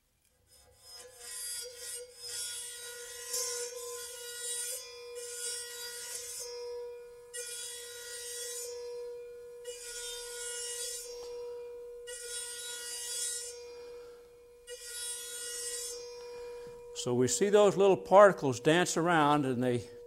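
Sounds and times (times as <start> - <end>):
bowed saw blade ringing tone: 2.6 - 20.0.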